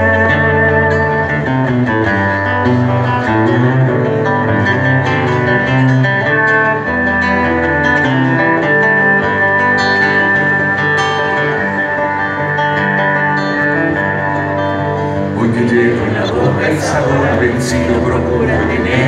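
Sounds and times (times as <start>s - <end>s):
acoustic guitars strummed: 0.0s - 19.0s.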